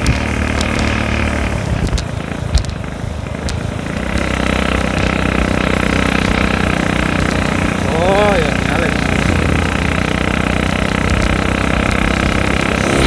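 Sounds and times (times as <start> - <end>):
sharp ticks: 0.0 - 1.2, 1.8 - 13.0
motorcycle engine running: 0.0 - 13.0
wind and road noise: 0.0 - 13.0.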